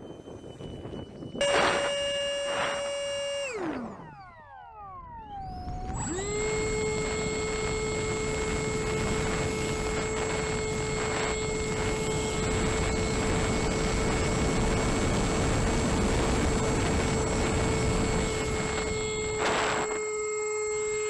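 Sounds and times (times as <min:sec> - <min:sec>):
wind rushing on microphone: 0:00.0 - 0:04.2, 0:05.1 - 0:20.0
electric motor and propeller whine: 0:00.0 - 0:21.0.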